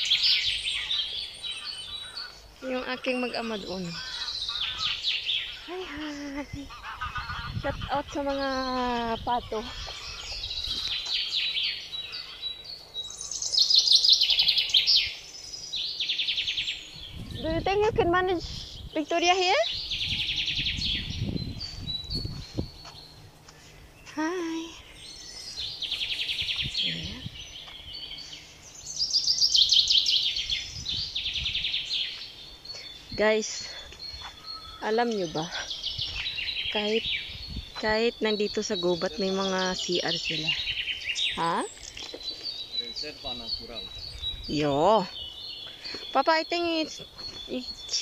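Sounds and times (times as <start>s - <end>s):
bird trill: 0.0s - 48.0s
songbirds singing: 0.0s - 48.0s.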